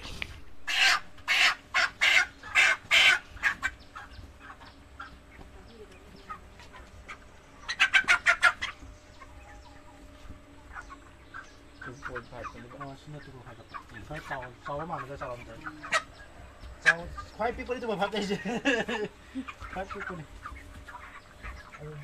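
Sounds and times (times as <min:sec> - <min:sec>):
chickens clucking: 0:00.0 - 0:22.0
chickens squawking: 0:00.0 - 0:22.0.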